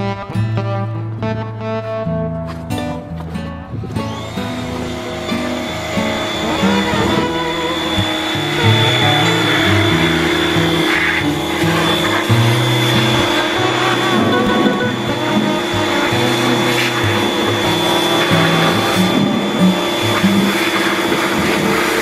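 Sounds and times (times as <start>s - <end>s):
background music with bass line: 0.0s - 20.4s
steady high whine: 2.7s - 22.0s
constant rushing noise: 3.4s - 22.0s.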